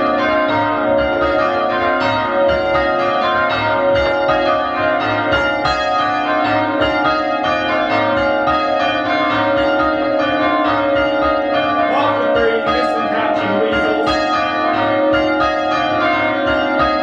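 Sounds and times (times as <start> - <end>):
church bells change ringing: 0.0 - 17.0.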